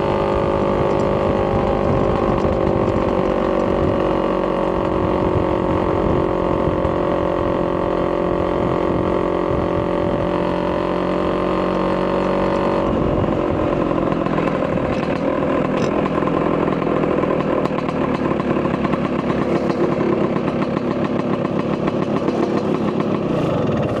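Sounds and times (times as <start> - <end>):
two-stroke scooter engine running: 0.0 - 24.0.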